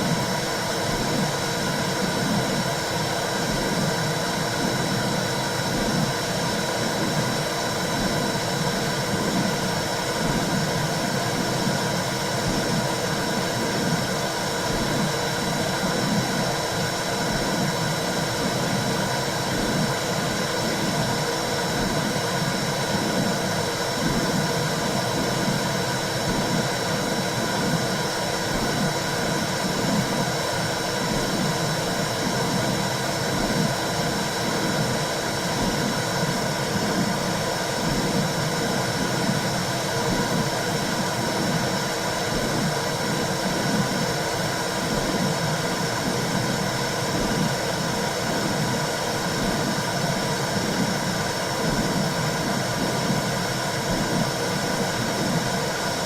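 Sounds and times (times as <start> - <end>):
rushing white noise: 0.0 - 56.0.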